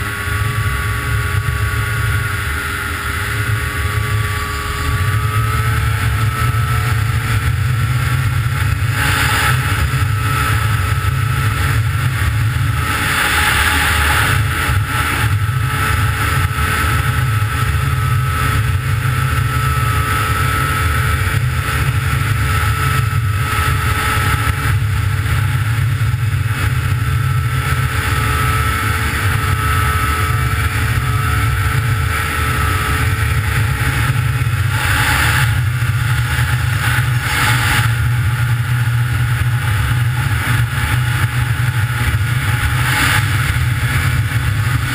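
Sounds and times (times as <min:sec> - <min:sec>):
snowmobile engine running: 0:00.0 - 0:44.9.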